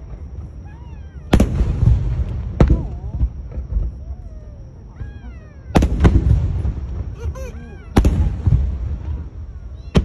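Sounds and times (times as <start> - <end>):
fireworks bangs: 0.0 - 10.0
fireworks crackling: 0.0 - 10.0.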